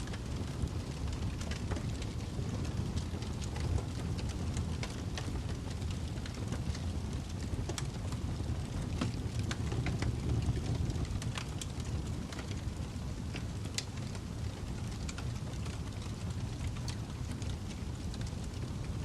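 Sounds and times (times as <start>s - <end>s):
fireplace crackling: 0.0s - 19.0s
low rumble of burning: 0.0s - 19.0s.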